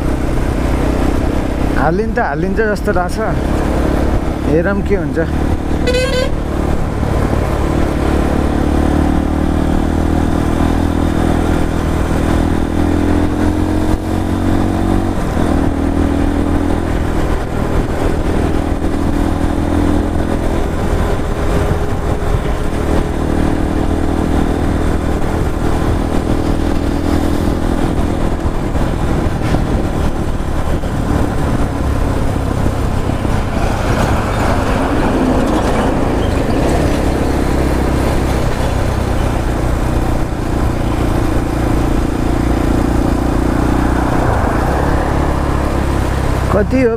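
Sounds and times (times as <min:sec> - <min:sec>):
motorcycle engine running: 0:00.0 - 0:46.9
road and wind rumble: 0:00.0 - 0:46.9.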